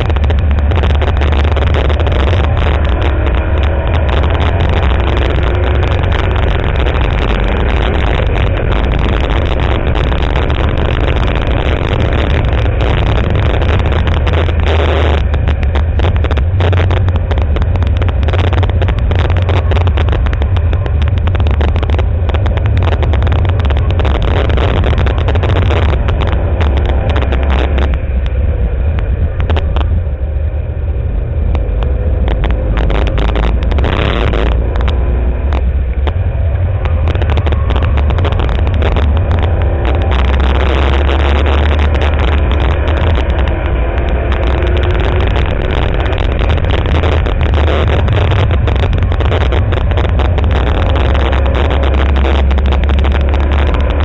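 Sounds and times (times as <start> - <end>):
car engine running hard: 0.0 - 54.0
wind and road noise: 0.0 - 54.0.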